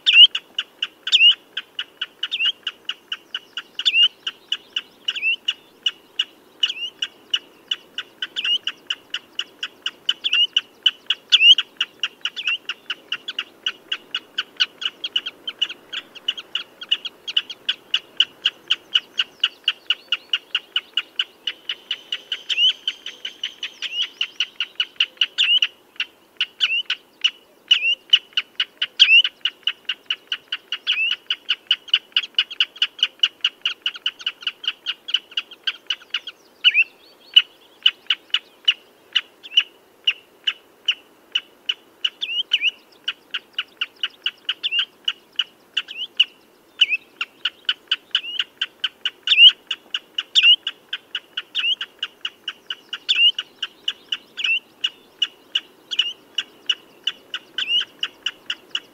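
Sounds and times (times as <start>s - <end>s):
bird high piping calls: 0.0s - 58.9s.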